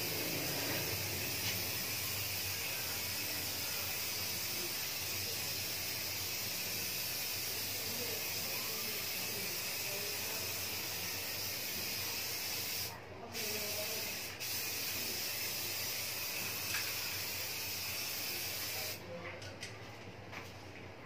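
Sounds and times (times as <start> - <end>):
aerosol spray can hissing: 0.0 - 19.0.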